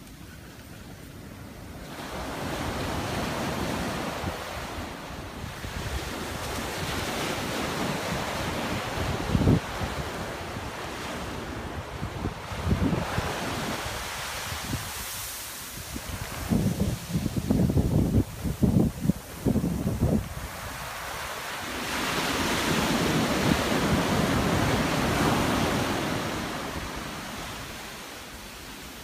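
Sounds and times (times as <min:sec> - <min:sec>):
small waves breaking on sand: 0:00.0 - 0:29.0
wind buffeting microphone: 0:01.1 - 0:27.8.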